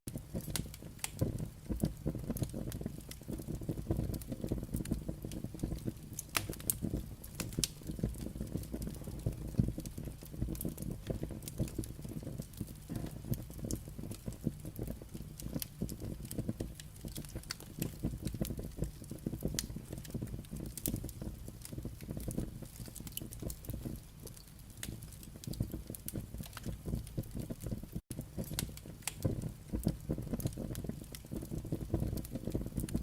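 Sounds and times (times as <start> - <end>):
firewood crackling and popping: 0.1 - 33.0.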